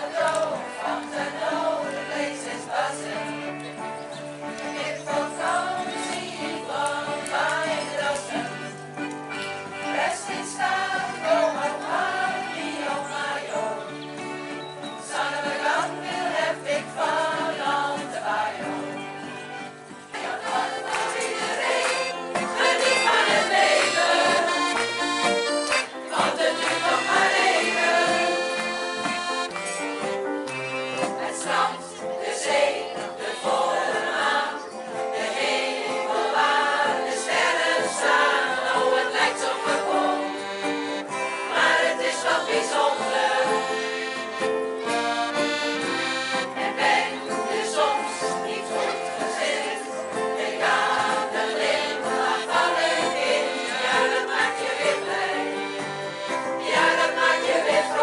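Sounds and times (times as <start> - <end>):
choir singing: 0.0 - 3.7, 4.5 - 8.8, 9.7 - 29.6, 31.0 - 58.0
accordion: 0.0 - 58.0.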